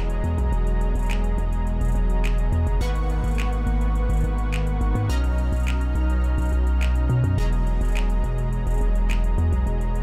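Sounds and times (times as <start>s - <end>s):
held bass notes: 0.0s - 10.0s.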